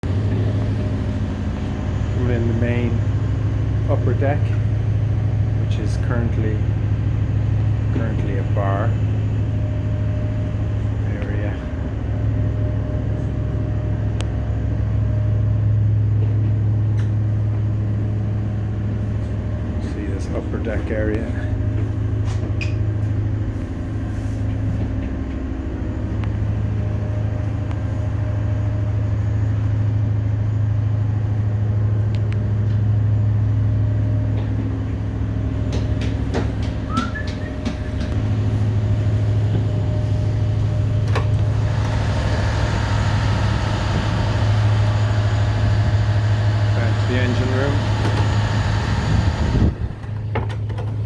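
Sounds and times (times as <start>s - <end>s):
ship machinery drone: 0.0s - 51.0s.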